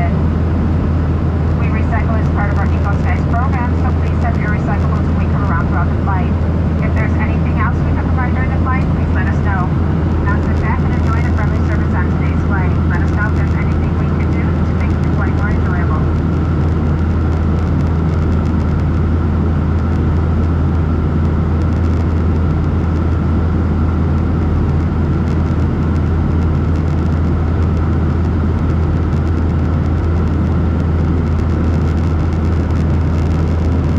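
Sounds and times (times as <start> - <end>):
airplane cabin hum: 0.0 - 33.9.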